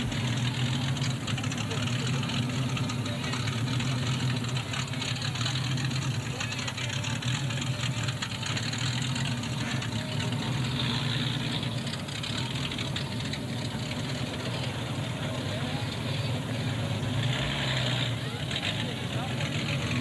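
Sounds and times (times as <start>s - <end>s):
race car engines idling: 0.0s - 20.0s.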